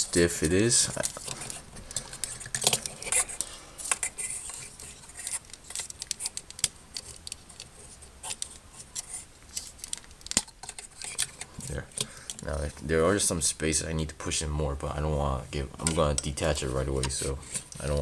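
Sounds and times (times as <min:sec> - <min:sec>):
plastic parts clicking and scraping: 0:00.0 - 0:12.9, 0:15.8 - 0:18.0.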